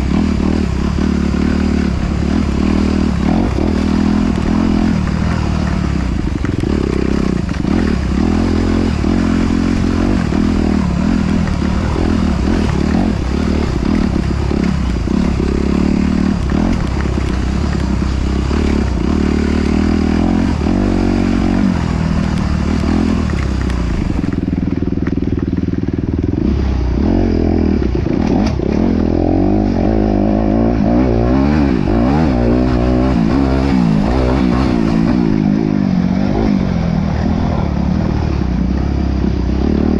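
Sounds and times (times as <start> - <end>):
clatter and rush from rough ground: 0.0 - 39.9
off-road vehicle engine revving: 0.0 - 39.9.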